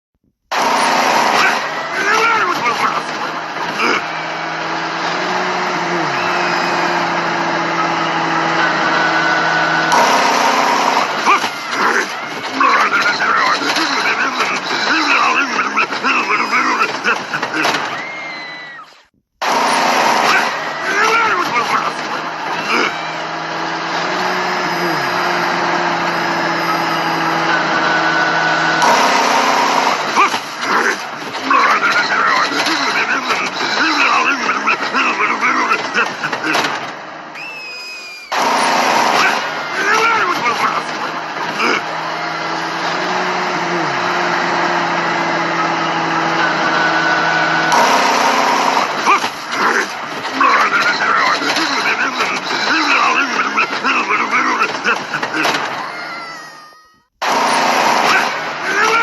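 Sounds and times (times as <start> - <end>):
engine drone: 0.4 - 18.7, 19.4 - 55.9, 57.2 - 59.0.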